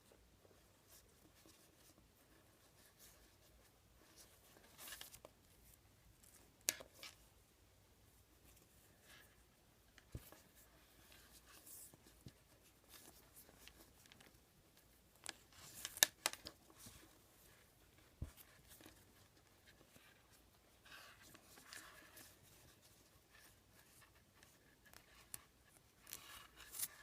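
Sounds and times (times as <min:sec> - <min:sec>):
cord rubbing and rustling: 0:00.0 - 0:07.3, 0:08.1 - 0:27.0.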